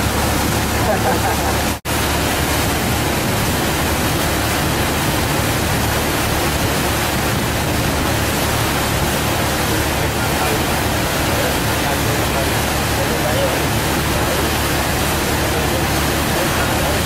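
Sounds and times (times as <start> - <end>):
boat engine hum: 0.0 - 17.0
wind buffeting microphone: 0.0 - 17.0.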